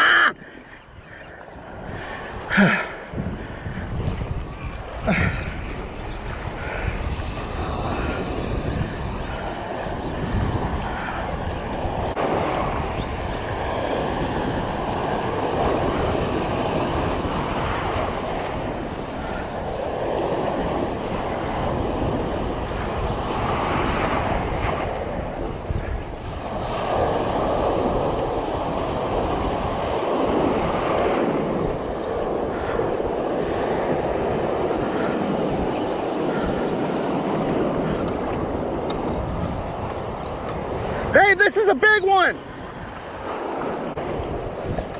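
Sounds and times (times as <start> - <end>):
surf washing in and out: 0.0 - 44.9
wind rumbling on microphone: 0.0 - 44.9.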